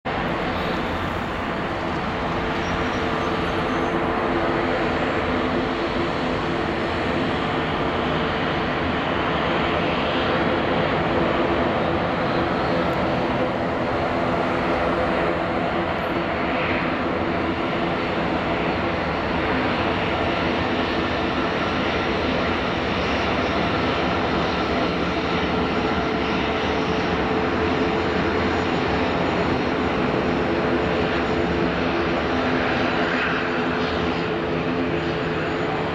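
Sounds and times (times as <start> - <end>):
airliner engines taxiing: 0.1 - 35.9.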